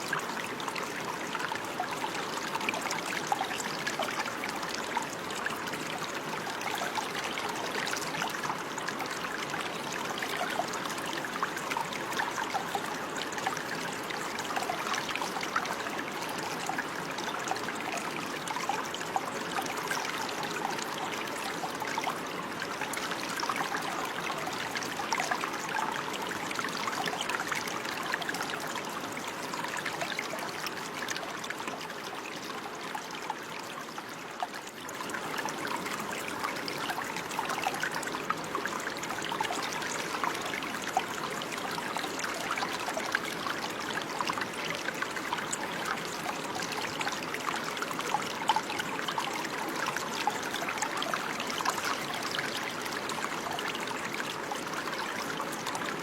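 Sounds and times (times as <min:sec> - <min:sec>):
water trickling and splashing: 0:00.0 - 0:56.0.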